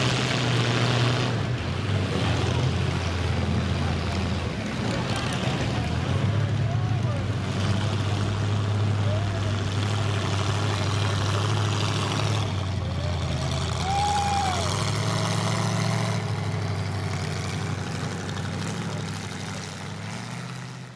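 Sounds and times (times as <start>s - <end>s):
truck engines running: 0.0s - 20.9s.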